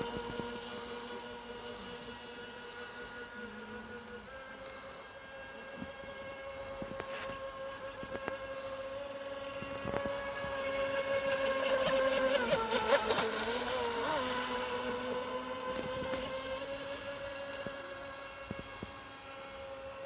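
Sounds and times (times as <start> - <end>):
model boat motor whining: 0.0 - 20.0.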